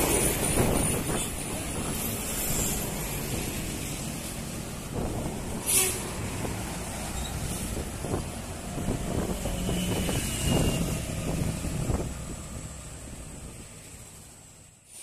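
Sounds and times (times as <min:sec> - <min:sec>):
bus passing: 0:00.0 - 0:15.0
vehicles passing: 0:00.0 - 0:15.0.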